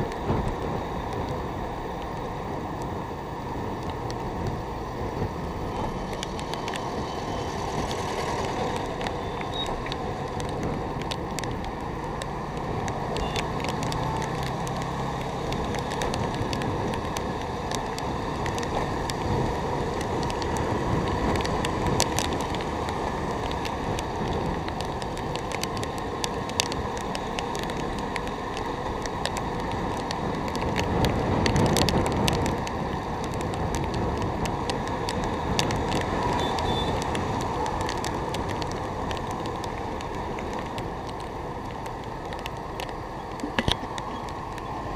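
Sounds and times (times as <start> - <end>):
motorbike engine and road noise: 0.0 - 44.9.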